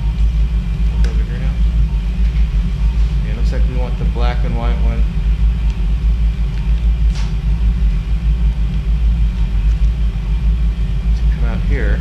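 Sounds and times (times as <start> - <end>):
low rumble of background noise: 0.0 - 12.0.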